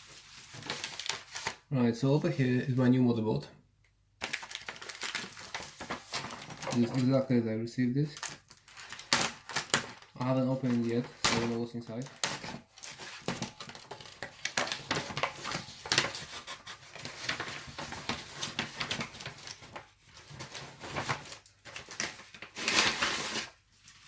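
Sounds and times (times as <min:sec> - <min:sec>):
plastic wrapping crinkling: 0:00.0 - 0:01.6, 0:04.2 - 0:07.3, 0:08.0 - 0:24.0.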